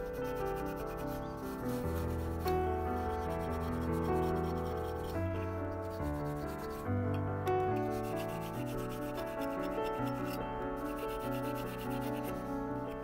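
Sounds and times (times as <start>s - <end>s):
scouring pad scrubbing metal: 0.0s - 6.8s, 7.7s - 13.0s.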